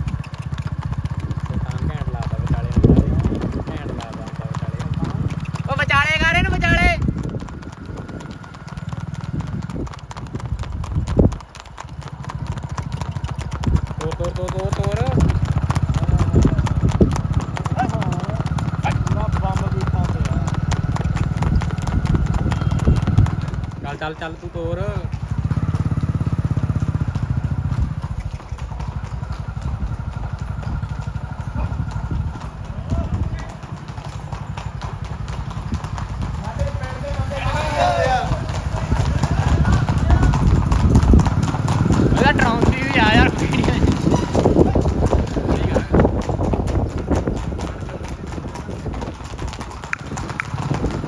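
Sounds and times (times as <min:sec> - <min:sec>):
engine puttering: 0:00.0 - 0:51.0
horse hooves clip-clopping: 0:00.0 - 0:51.0.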